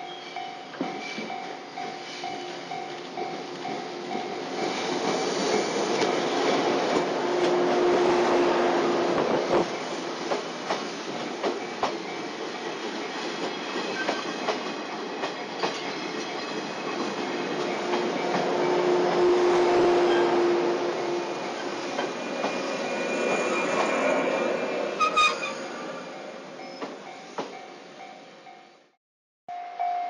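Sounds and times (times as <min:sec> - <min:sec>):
train cars rolling past: 0:00.3 - 0:28.6.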